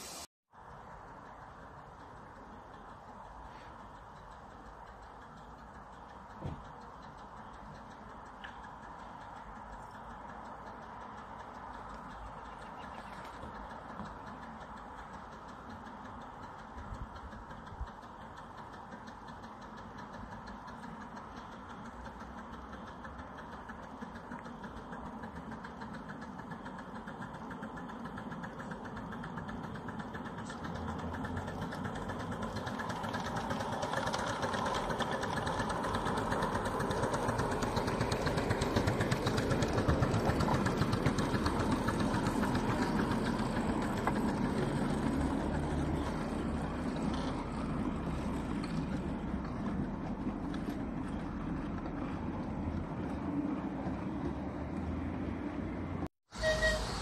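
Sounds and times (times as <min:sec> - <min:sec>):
miniature train passing: 0:00.0 - 0:57.0.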